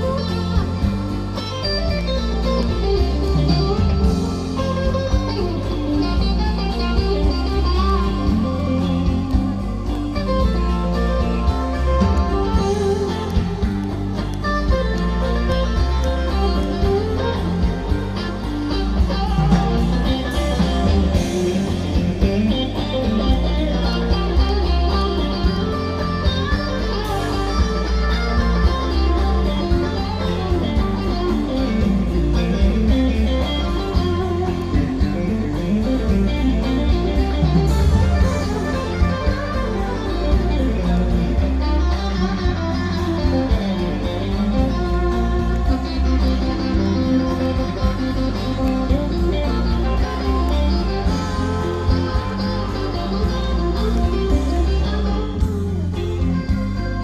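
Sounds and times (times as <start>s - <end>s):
bass guitar: 0.0s - 57.0s
drums: 0.0s - 57.0s
electric guitar: 0.0s - 57.0s.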